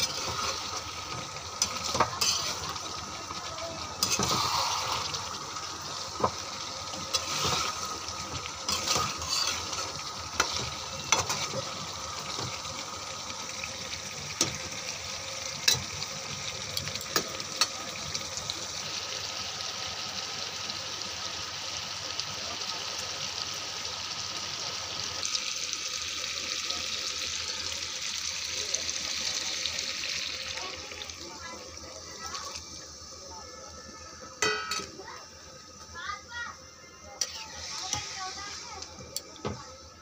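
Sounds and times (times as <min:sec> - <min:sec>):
curry sizzling in a frying pan: 0:00.0 - 0:40.0.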